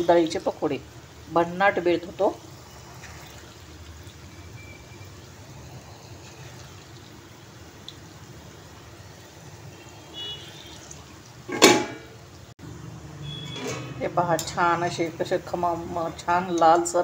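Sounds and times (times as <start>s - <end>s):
food deep-frying in oil: 0.0s - 17.0s.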